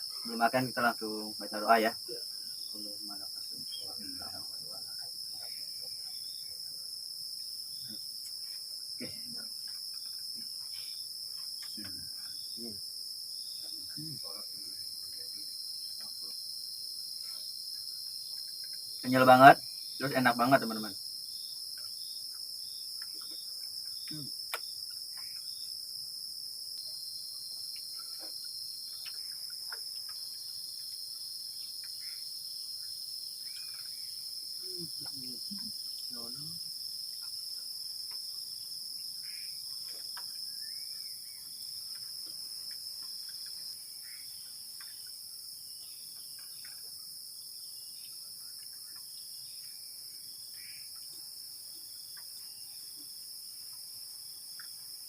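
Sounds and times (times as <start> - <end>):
night insects chorus: 0.0 - 55.0.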